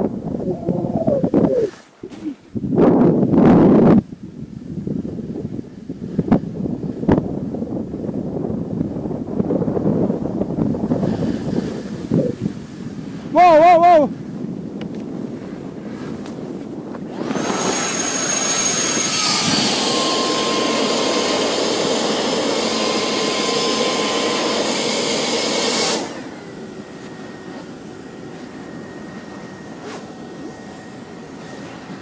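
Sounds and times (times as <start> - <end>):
airbag fan whirring rush: 0.0 - 32.0.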